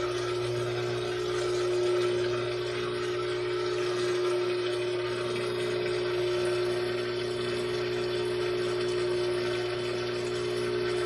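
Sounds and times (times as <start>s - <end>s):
washing machine drain pump humming: 0.0s - 11.0s.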